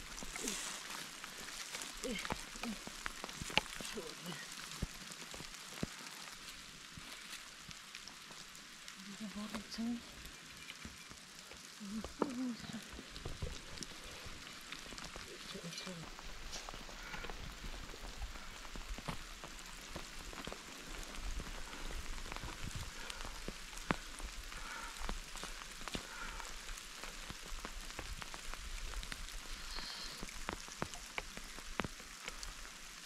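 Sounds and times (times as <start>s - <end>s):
rain falling: 0.0s - 33.0s
sharp ticks of raindrops: 0.0s - 33.0s.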